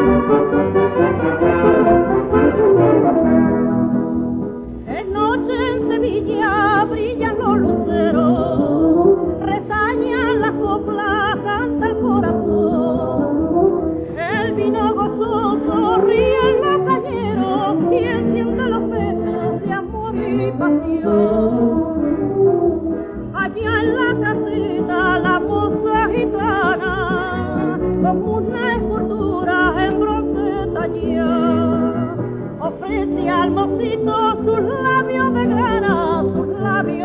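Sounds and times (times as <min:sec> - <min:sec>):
instrumental accompaniment: 0:00.0 - 0:37.0.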